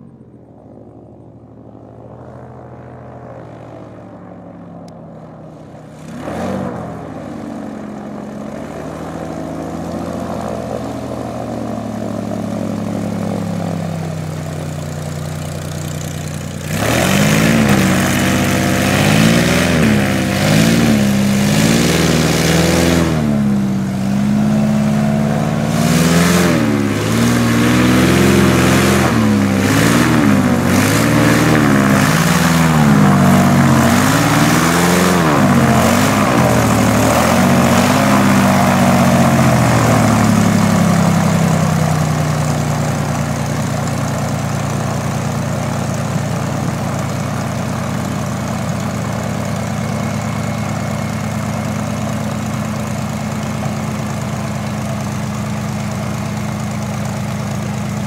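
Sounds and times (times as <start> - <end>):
airboat engine and propeller revving: 0.0 - 58.0.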